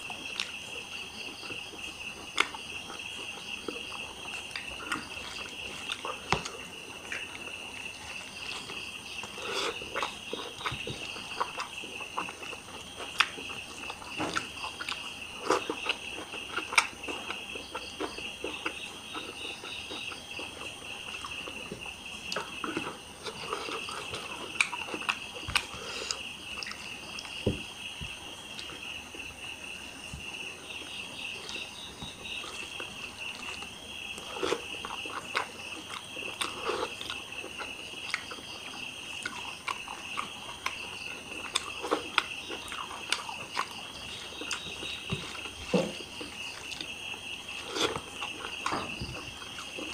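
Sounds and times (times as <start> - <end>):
insects chirping: 0.0 - 49.9
man chewing and lip smacking: 2.2 - 21.6, 22.2 - 28.8, 32.4 - 47.0.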